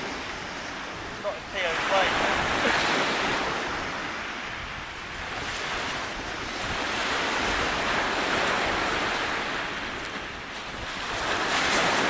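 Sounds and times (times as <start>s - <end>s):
waves washing onto beach: 0.0s - 12.0s
wind on microphone: 0.0s - 12.0s.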